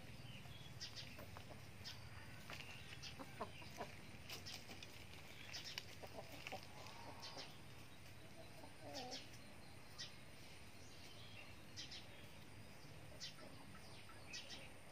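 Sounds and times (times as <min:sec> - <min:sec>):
chickens clucking: 0:00.0 - 0:14.9.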